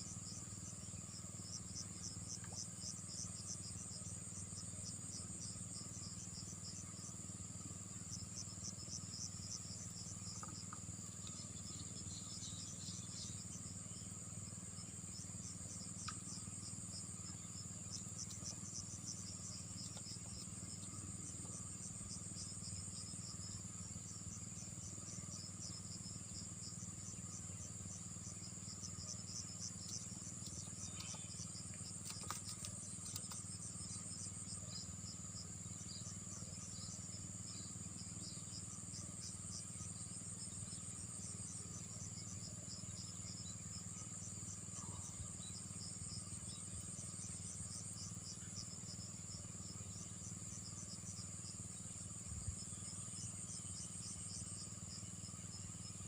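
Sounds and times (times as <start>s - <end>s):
insects trilling: 0.0s - 56.0s
short insect chirps: 0.0s - 56.0s.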